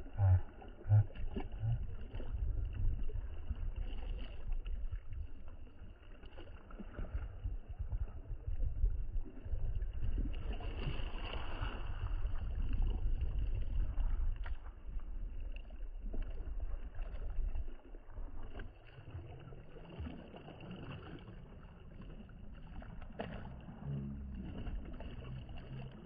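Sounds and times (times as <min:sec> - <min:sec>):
low rumble: 0:00.0 - 0:06.0, 0:06.8 - 0:18.6, 0:21.1 - 0:26.0
paddle splashing in water: 0:00.0 - 0:26.0.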